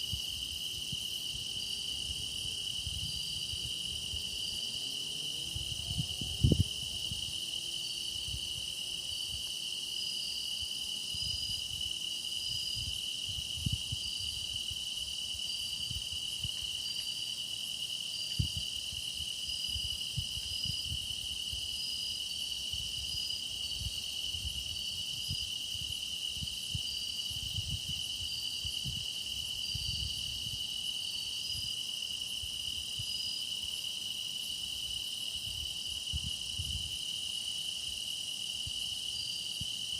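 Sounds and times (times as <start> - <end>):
crickets trilling: 0.0 - 39.9
insect chirping in pulses: 0.0 - 39.9.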